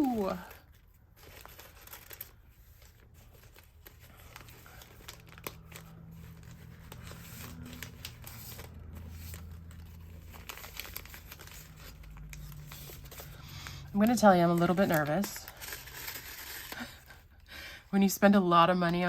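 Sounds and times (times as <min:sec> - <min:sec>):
paper packaging crinkling: 0:00.0 - 0:17.4.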